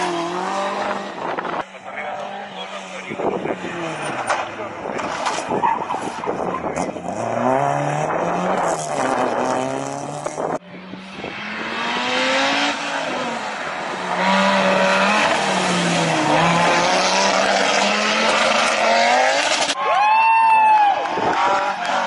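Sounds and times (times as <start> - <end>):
car accelerating: 0.0 - 19.8
rally car engines revving: 0.0 - 19.8, 21.1 - 22.0.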